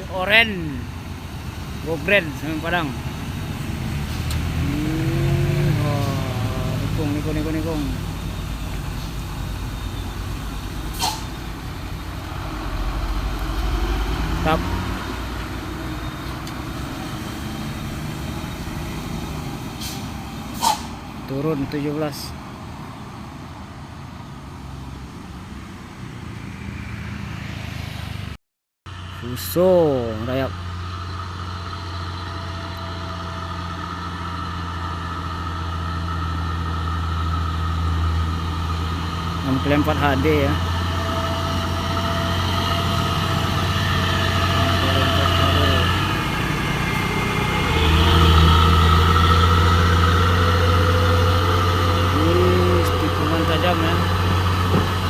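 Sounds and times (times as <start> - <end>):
truck diesel engine labouring: 0.0 - 26.6, 28.9 - 55.0.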